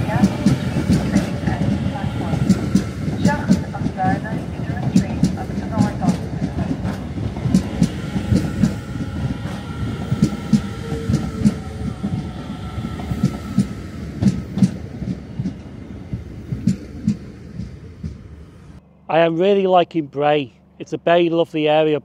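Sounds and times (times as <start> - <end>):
train wheels clacking over rail joints: 0.0 - 18.5
electric train whine: 0.0 - 22.0.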